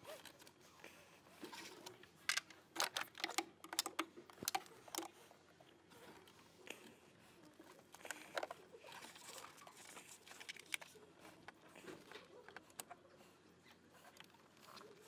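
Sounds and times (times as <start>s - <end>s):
faint clicks taps and rustling: 0.2s - 13.1s.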